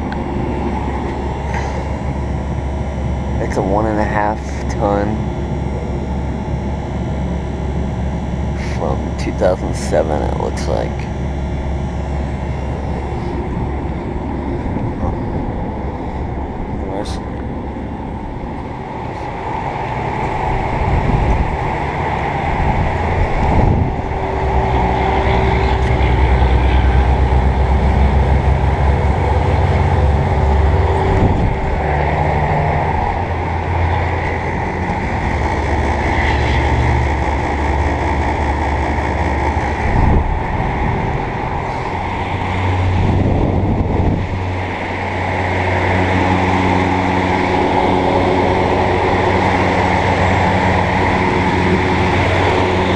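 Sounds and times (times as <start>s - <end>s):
condenser fan rushing: 0.0s - 52.9s
low compressor hum: 0.0s - 52.9s.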